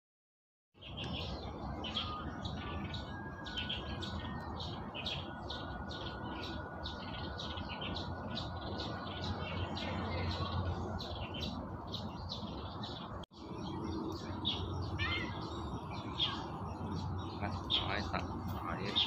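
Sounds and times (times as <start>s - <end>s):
birds chirping: 0.8s - 19.0s
outdoor background noise: 0.8s - 19.0s.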